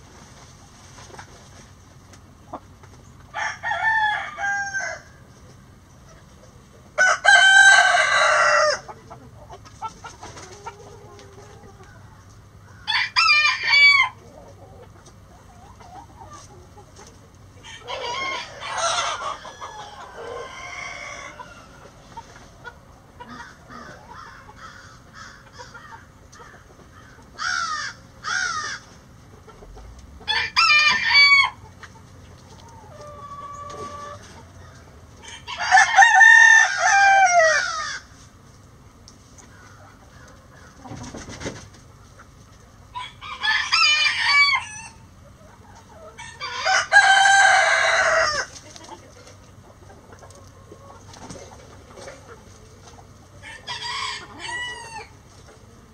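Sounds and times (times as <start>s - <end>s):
hens clucking softly: 0.2s - 3.5s, 5.0s - 55.9s
roosters crowing: 3.2s - 5.4s, 6.9s - 16.7s, 17.4s - 38.4s, 42.7s - 55.9s.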